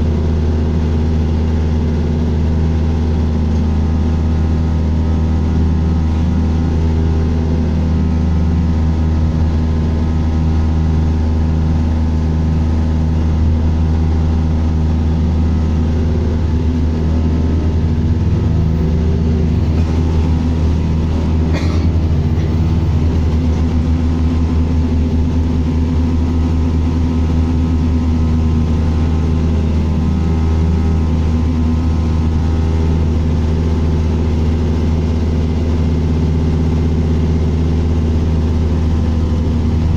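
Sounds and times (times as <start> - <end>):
bus engine hum: 0.0 - 39.9.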